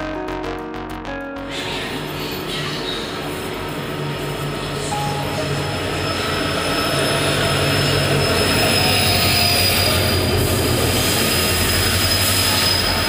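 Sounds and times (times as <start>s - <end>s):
thin high whine: 1.5s - 13.0s
train wheels rumbling on rails: 1.5s - 13.0s.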